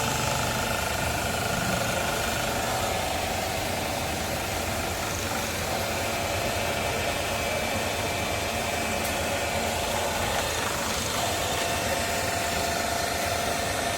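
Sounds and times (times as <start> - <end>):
faint steady whine: 0.0 - 13.9
milling machine running: 0.0 - 13.9.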